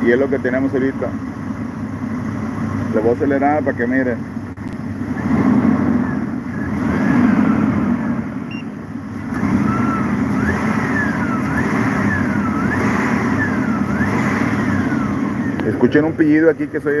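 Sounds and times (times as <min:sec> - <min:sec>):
alternator whine: 0:00.0 - 0:17.0
truck engine revving: 0:00.0 - 0:17.0.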